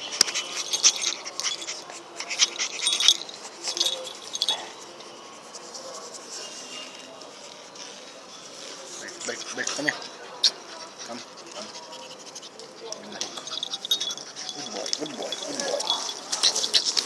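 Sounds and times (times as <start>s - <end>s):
puppy scratching at microphone: 0.0s - 17.0s.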